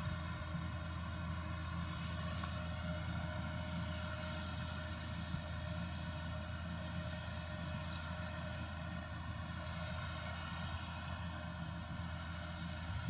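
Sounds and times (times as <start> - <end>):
harvester diesel engine drone: 0.0 - 13.0.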